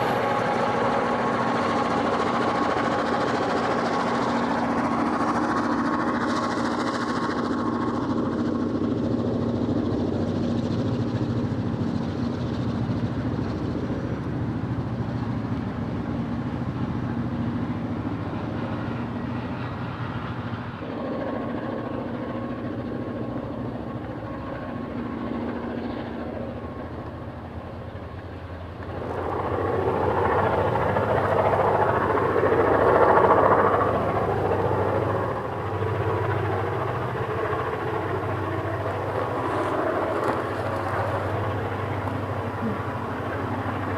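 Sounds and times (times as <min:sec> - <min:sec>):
diesel locomotive engines throbbing: 0:00.0 - 0:43.9.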